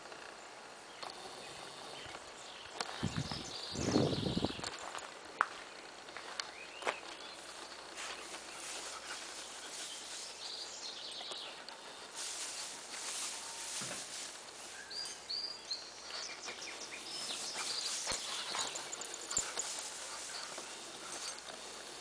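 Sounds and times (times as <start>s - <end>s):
birds chirping: 0.0s - 22.0s
dry grass rustling: 1.2s - 22.0s.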